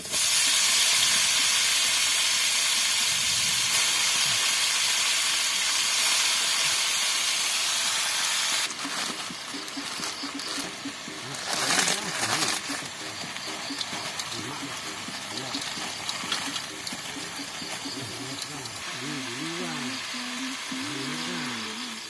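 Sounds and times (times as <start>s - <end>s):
greens sizzling in hot oil: 0.0s - 22.0s.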